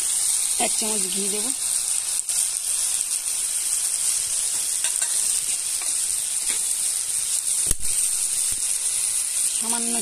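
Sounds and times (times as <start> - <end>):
curry sizzling: 0.0 - 10.0.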